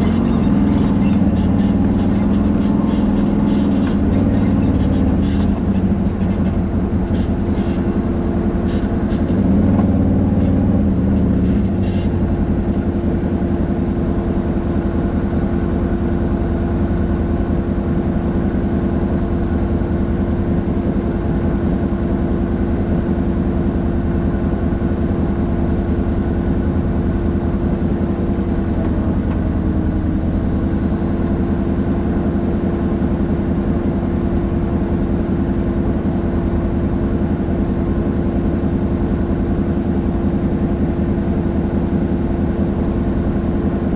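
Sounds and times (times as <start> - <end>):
utility vehicle engine drone: 0.0 - 43.9.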